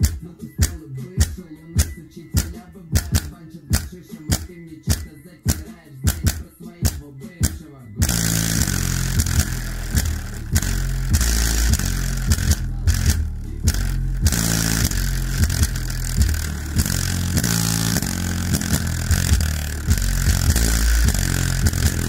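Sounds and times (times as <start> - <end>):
deep rap bass from subwoofer: 0.0 - 22.0.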